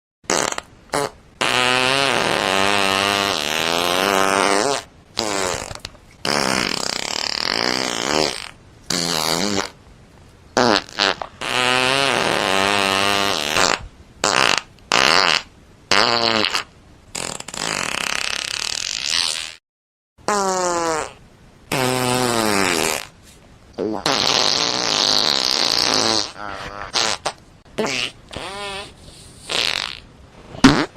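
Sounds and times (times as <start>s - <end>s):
fart sounds: 0.3s - 9.8s, 10.6s - 19.6s, 20.2s - 23.2s, 23.8s - 30.9s.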